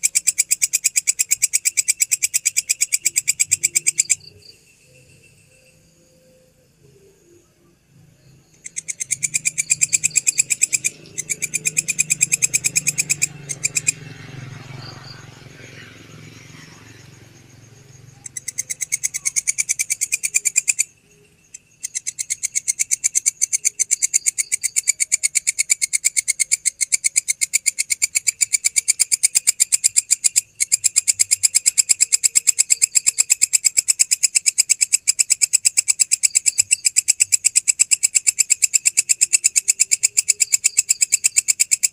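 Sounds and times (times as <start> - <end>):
grasshopper chirring: 0.0 - 41.9.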